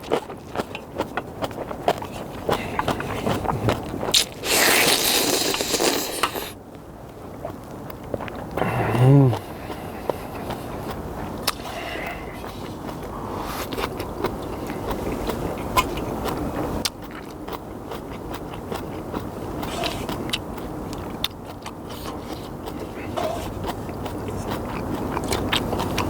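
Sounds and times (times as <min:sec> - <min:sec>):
person chewing noodles: 0:00.0 - 0:06.6, 0:07.2 - 0:26.0.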